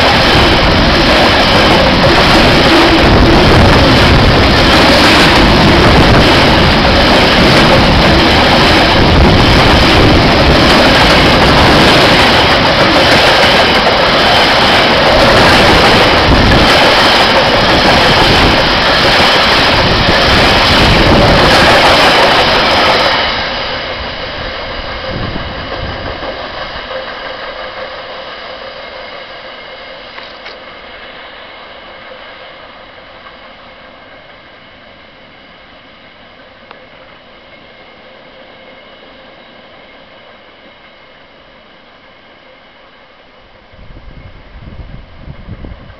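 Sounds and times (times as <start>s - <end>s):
freight train wheels on rail: 0.0s - 45.9s.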